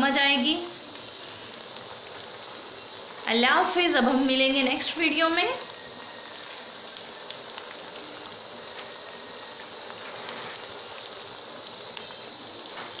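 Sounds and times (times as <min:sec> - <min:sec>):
food sizzling in a frying pan: 0:00.0 - 0:13.0
small crackles and pops: 0:00.0 - 0:13.0.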